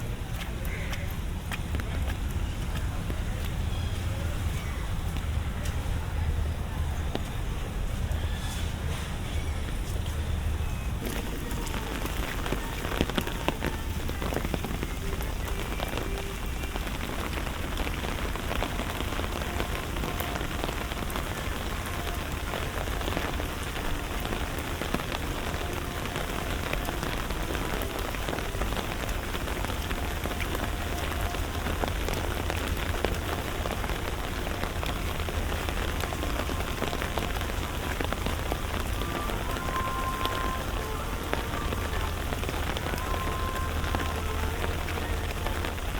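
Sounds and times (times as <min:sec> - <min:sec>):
rain on hard surfaces: 0:00.0 - 0:45.9.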